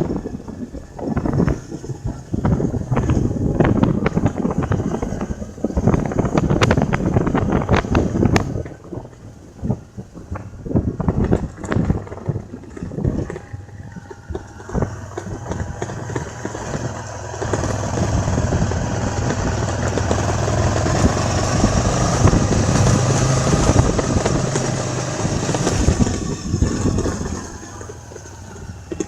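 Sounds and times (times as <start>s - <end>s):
vehicle engine running: 0.0s - 29.0s
rattles and knocks: 0.9s - 29.0s.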